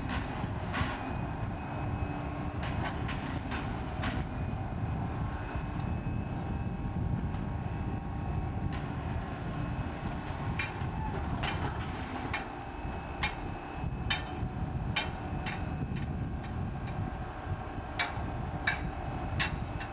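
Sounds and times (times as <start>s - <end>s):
crane low rumble: 0.0s - 19.9s.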